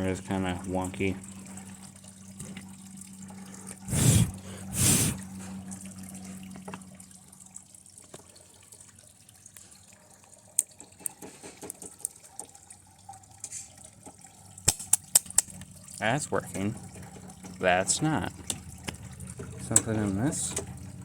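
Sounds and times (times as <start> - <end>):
low electrical hum: 0.0 - 10.9, 12.0 - 21.0.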